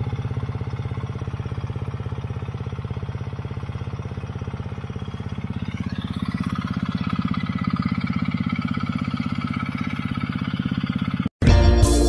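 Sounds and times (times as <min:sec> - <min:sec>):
model tractor engine chugging: 0:00.0 - 0:11.3.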